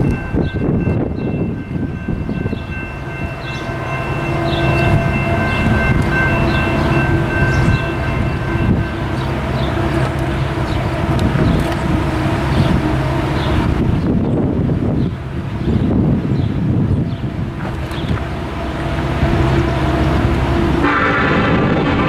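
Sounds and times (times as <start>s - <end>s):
diesel locomotive engines: 0.0s - 22.0s.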